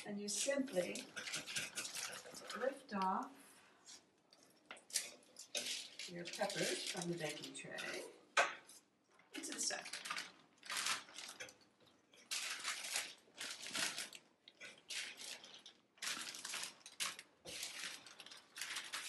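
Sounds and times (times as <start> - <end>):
plastic bag crinkling: 0.3 - 3.0, 4.9 - 7.9, 9.4 - 19.0.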